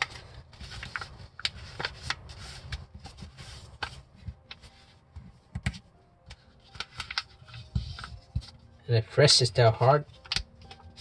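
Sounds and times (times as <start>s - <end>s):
paper crinkling and rustling: 0.0s - 8.7s, 9.7s - 11.0s.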